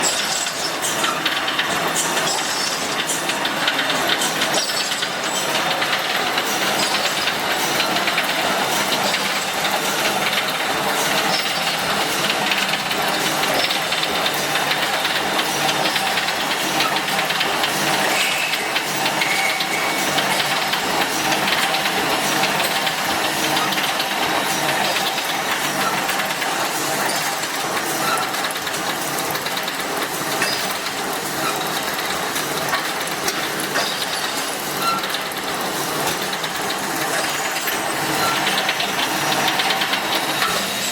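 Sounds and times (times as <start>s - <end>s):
welding machine clattering: 0.0s - 40.9s.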